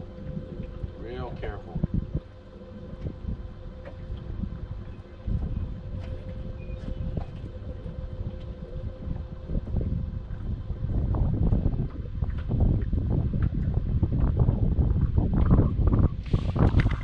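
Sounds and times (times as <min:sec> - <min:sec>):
boat motor humming: 0:00.0 - 0:17.0
wind buffeting microphone: 0:00.0 - 0:17.0.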